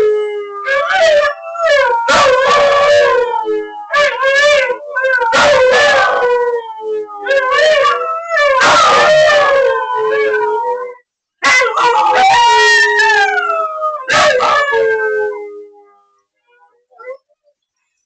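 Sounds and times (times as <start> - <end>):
dog howling: 0.0 - 16.0.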